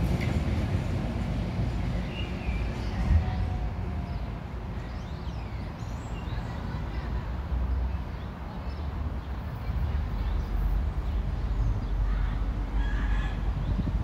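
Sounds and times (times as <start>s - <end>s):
low city rumble: 0.0s - 14.0s.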